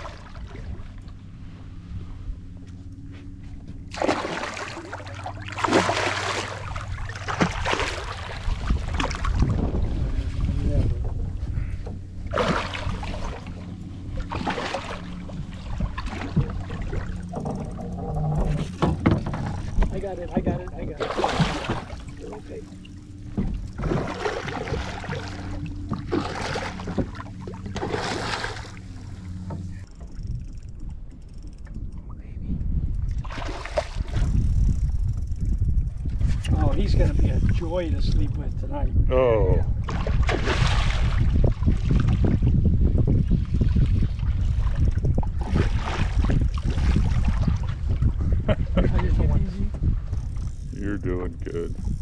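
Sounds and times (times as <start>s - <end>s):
water splashing and sloshing: 0.0s - 38.5s, 39.7s - 52.0s
boat motor humming: 0.0s - 52.0s.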